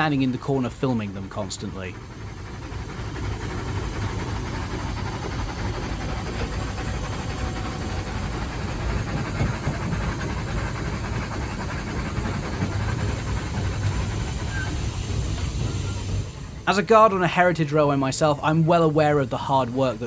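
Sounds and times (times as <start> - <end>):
steam locomotive running rumble: 0.0 - 20.0.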